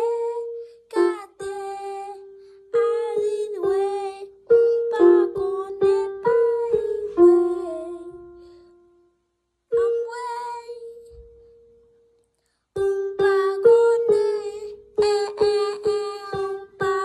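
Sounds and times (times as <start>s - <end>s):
piano notes: 0.0s - 12.1s, 12.8s - 17.0s.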